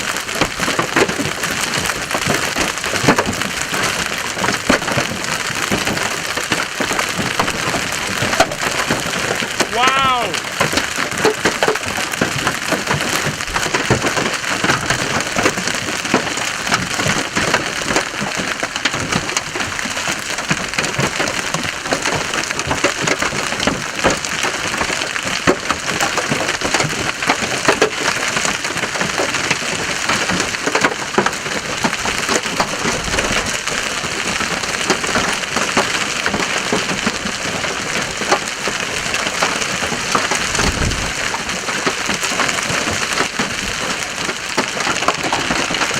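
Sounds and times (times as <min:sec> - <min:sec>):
hail and rain hitting vehicle: 0:00.0 - 0:45.9.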